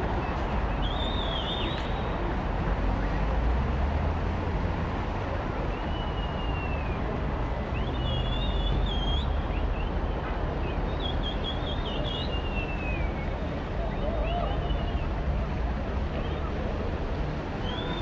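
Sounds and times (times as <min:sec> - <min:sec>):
large outdoor crowd: 0:00.0 - 0:18.0.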